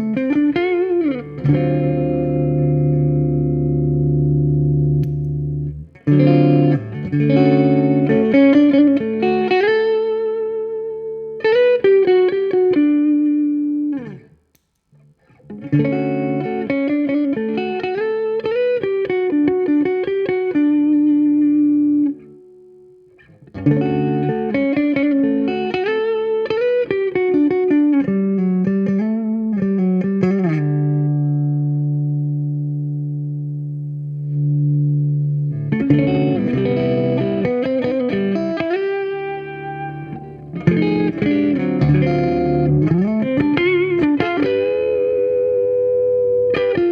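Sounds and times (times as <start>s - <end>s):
electric guitar notes: 0.0s - 46.9s.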